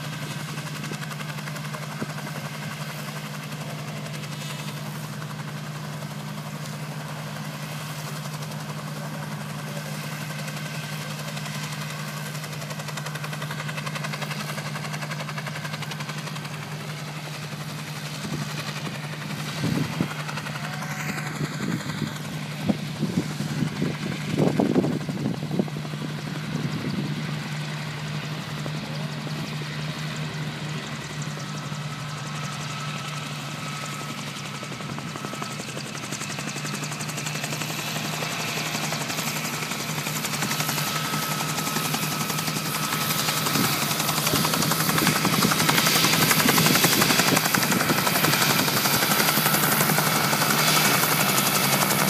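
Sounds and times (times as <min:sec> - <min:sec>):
propeller engines droning: 0:00.0 - 0:52.0.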